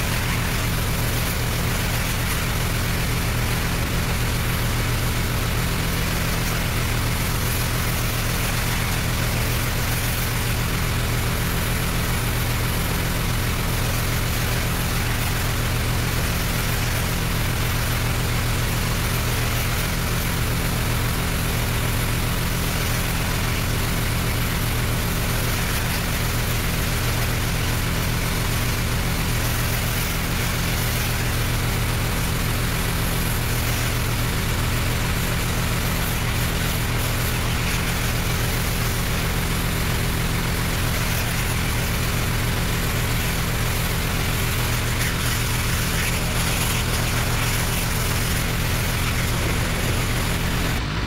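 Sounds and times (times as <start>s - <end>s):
pressure washer engine running: 0.0s - 51.0s
water spraying against siding: 0.0s - 51.0s.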